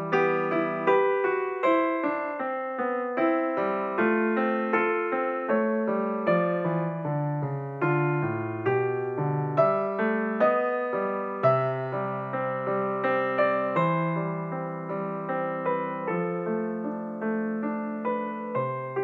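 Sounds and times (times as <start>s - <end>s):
slow gentle piano melody: 0.0s - 19.0s.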